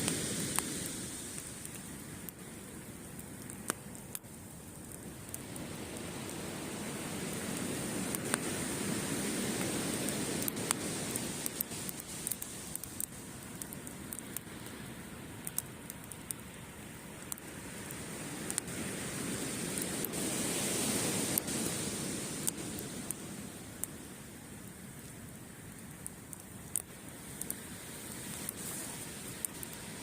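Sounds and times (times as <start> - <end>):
campfire pops and crackles: 0.0 - 30.0
ocean waves washing onto beach: 0.0 - 30.0.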